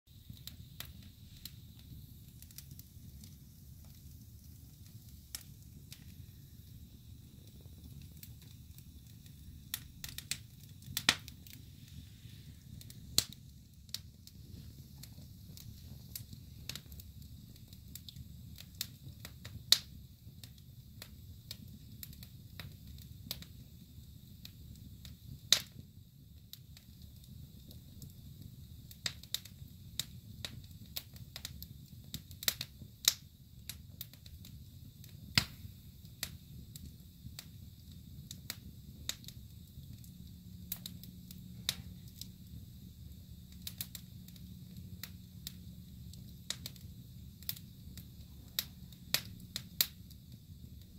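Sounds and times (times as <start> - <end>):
fire crackling and popping: 0.1 - 50.9
low rumble of flames: 0.1 - 50.9.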